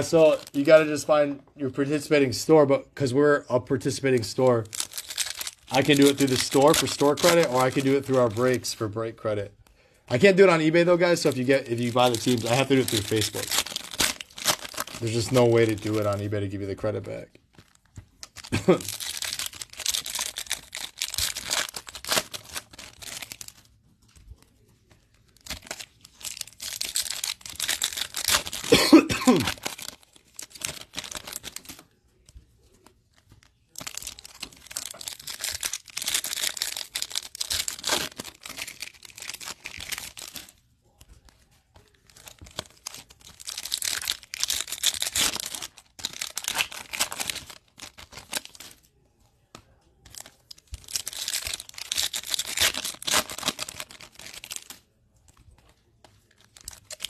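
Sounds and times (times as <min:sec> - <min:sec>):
foil wrappers tearing and crinkling: 0:00.0 - 0:01.1, 0:03.8 - 0:08.9, 0:10.2 - 0:17.0, 0:17.6 - 0:23.7, 0:25.3 - 0:31.9, 0:33.4 - 0:40.6, 0:41.8 - 0:48.8, 0:50.0 - 0:54.9, 0:55.9 - 0:57.0.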